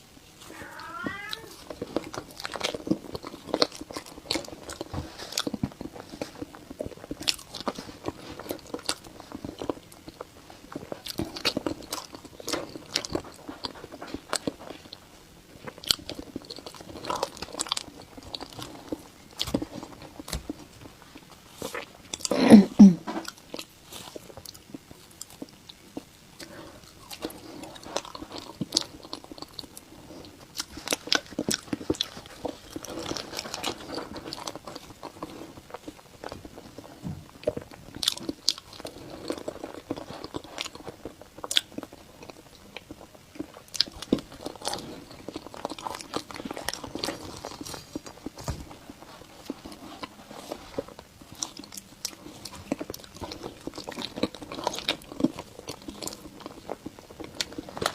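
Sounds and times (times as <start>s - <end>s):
person chewing and biting food: 1.1s - 22.4s, 23.2s - 57.9s.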